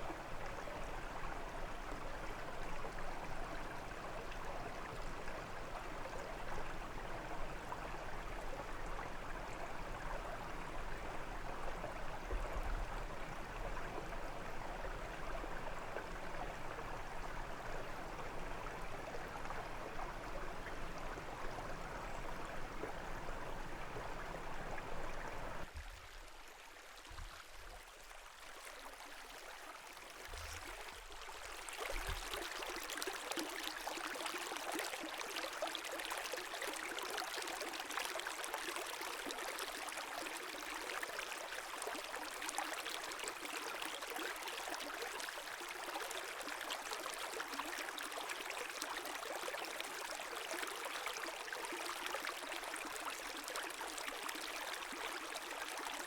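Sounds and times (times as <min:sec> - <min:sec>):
brook water rushing: 0:00.0 - 0:56.0.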